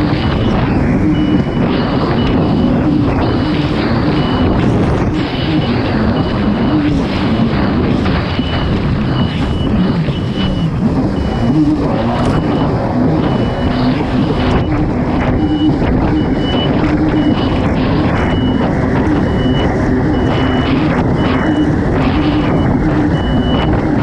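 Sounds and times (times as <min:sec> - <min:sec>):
high-pitched beep: 0:00.0 - 0:24.0
watercraft engine running hard: 0:00.0 - 0:24.0
wind and water rushing: 0:00.0 - 0:24.0.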